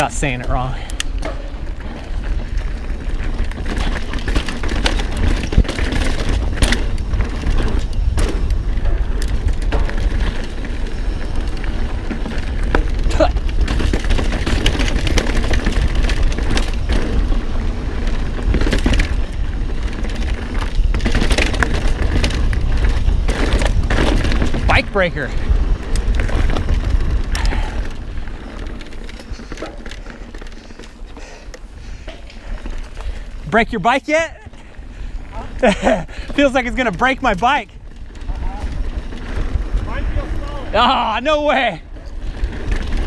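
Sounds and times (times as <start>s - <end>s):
wind rumbling on microphone: 0.0s - 33.5s, 34.3s - 43.0s
bike rattling and knocking: 0.0s - 43.0s
bike tyres on dirt: 0.0s - 43.0s.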